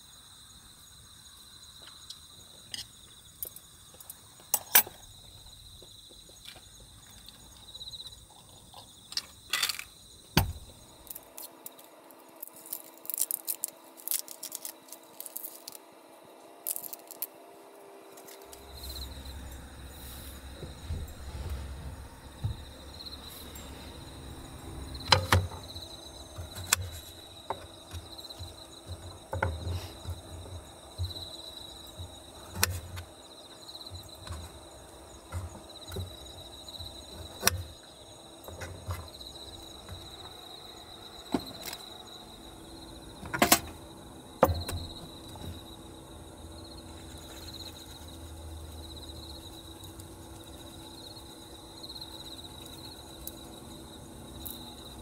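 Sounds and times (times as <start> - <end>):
high insect trill: 0.0 - 55.0.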